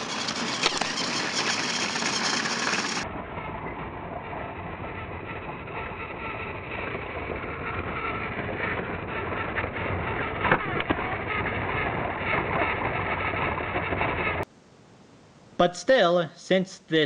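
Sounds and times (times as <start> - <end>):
toy train running on track: 0.0 - 14.4.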